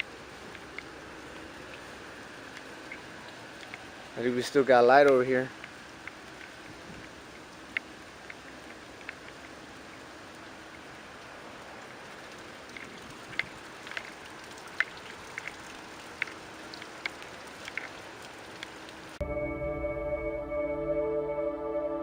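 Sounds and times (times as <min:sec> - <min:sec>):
sharp drips tapping: 0:00.0 - 0:10.8, 0:11.6 - 0:19.2
steady rain falling: 0:00.0 - 0:19.3.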